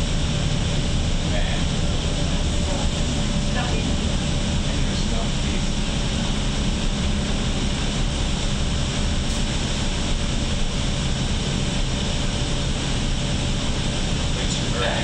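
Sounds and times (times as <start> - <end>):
road rumble and hiss: 0.0 - 15.0.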